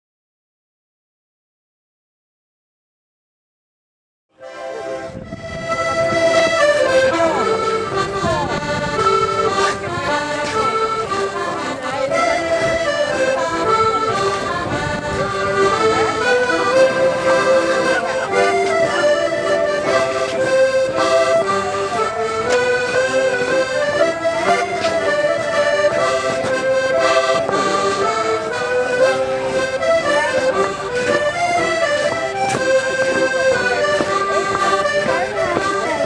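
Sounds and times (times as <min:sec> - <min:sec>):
accordion folk dance tune: 0:04.4 - 0:36.0.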